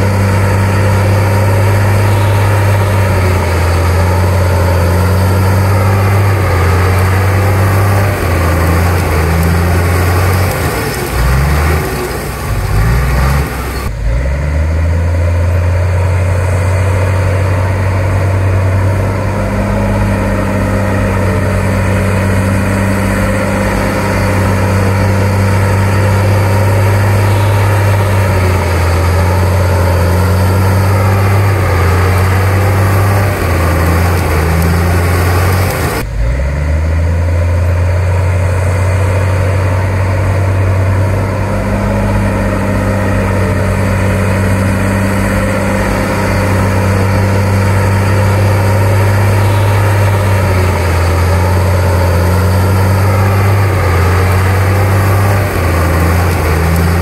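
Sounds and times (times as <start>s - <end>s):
bulldozer diesel engine drone: 0.0s - 57.0s.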